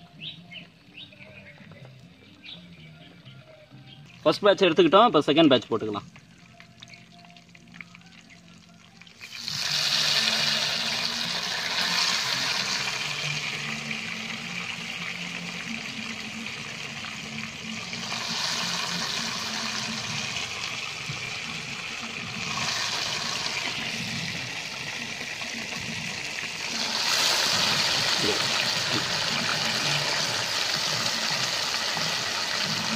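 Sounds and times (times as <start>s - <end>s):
chicken deep-frying in hot oil: 5.7s - 32.9s.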